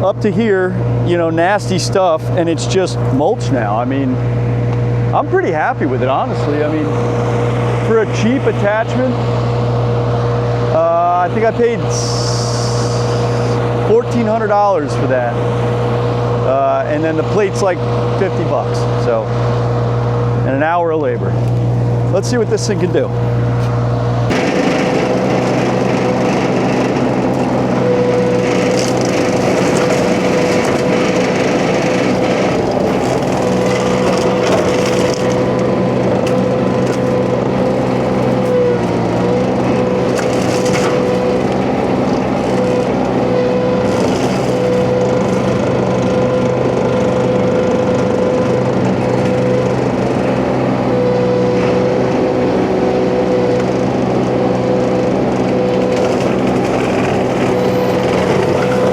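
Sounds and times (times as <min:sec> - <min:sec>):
flail mulcher whine: 0:00.0 - 0:58.9
skid steer engine at full throttle: 0:00.0 - 0:58.9.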